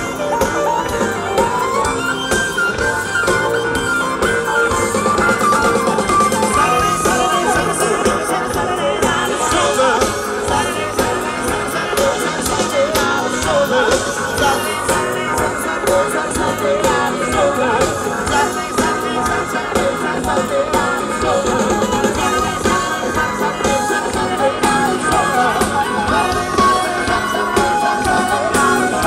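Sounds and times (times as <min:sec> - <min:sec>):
drum kit beat: 0:00.0 - 0:29.0
live band playing: 0:00.0 - 0:29.0
person singing: 0:00.0 - 0:29.0.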